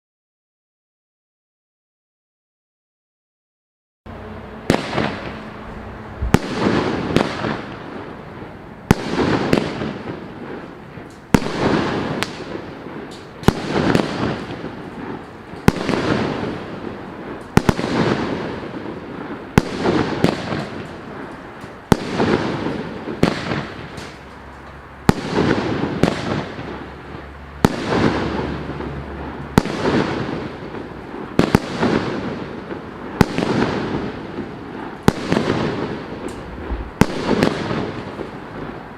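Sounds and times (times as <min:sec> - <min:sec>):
firework crackling: 0:04.1 - 0:38.9
firework shots: 0:04.1 - 0:38.9.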